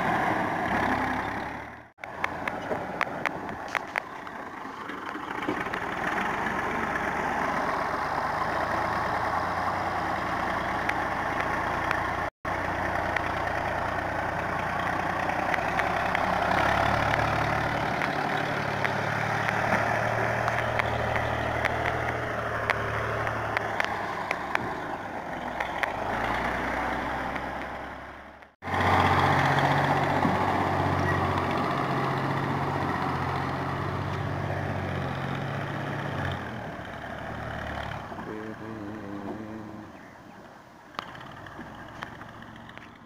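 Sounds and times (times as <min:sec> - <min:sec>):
tractor engine idling: 0:00.0 - 0:43.0.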